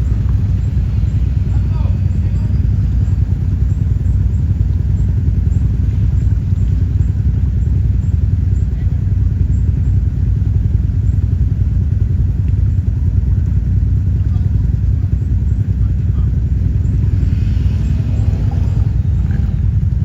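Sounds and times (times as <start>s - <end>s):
quad engine running: 0.0s - 20.0s.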